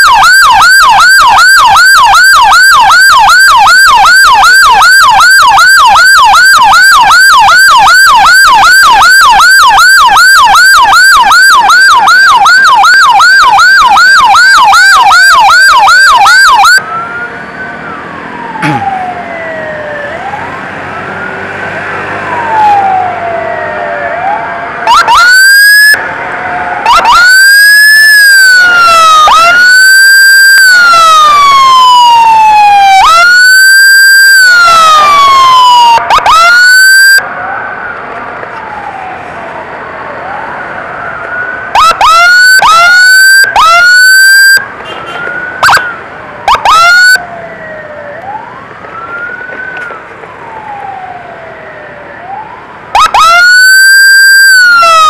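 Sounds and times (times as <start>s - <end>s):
electronic siren yelping: 0.0s - 21.6s, 22.2s - 37.7s, 40.2s - 55.0s
faint wailing siren: 0.0s - 55.0s.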